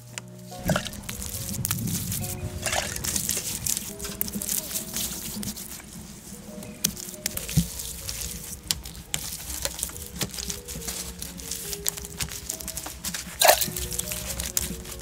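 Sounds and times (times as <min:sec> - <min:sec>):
dry grass and sticks rustling: 0:00.0 - 0:15.0
soft background music: 0:00.0 - 0:15.0.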